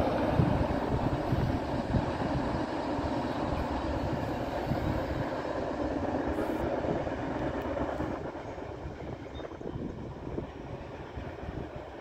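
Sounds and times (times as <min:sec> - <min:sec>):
freight train rumbling: 0:00.0 - 0:12.0.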